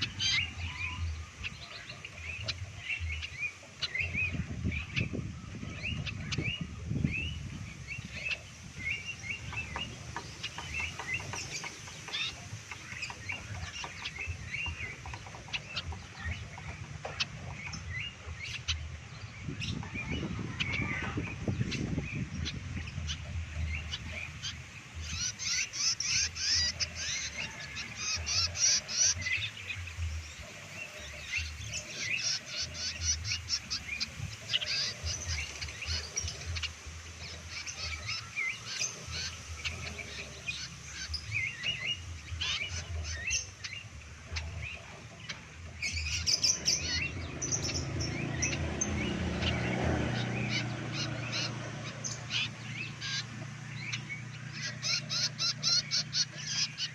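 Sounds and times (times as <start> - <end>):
bird chirping rapidly: 0.0 - 56.9.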